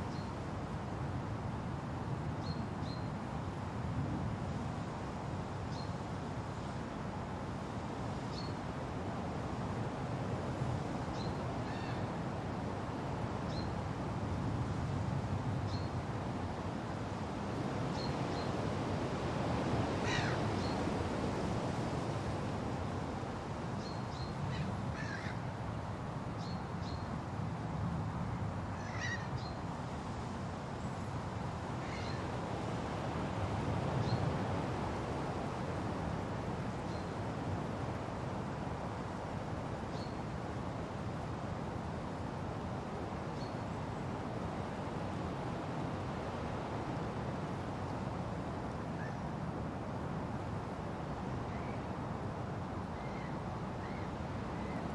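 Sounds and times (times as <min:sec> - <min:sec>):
wind through foliage: 0:00.0 - 0:54.9.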